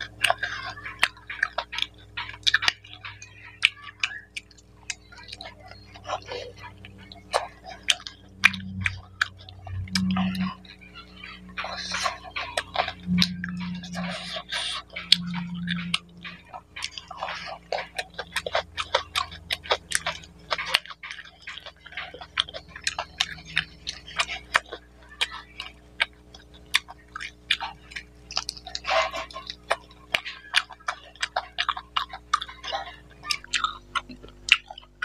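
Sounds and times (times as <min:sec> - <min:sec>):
man chewing with lip smacks: 0:00.0 - 0:35.0.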